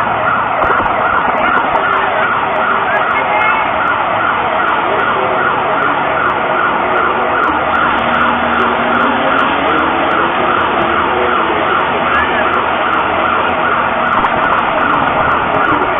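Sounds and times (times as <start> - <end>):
sweeping alert siren: 0.0 - 15.9.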